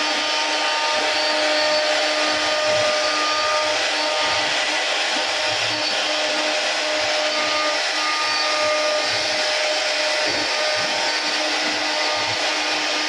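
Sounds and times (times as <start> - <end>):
bit cutting wood: 0.0 - 13.0
router spindle motor whine: 0.0 - 13.0.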